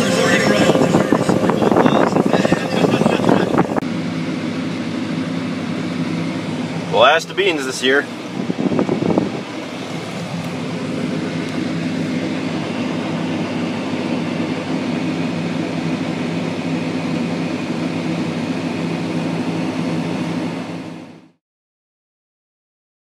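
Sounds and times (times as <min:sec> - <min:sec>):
farm machinery droning: 0:00.0 - 0:21.4.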